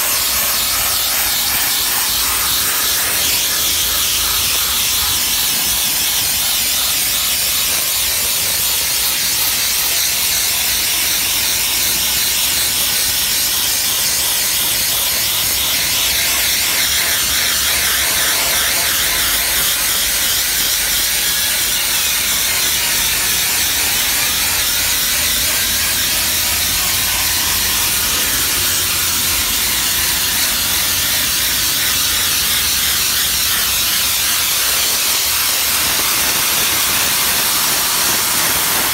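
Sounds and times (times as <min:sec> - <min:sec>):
steam jet hissing: 0:00.0 - 0:38.9.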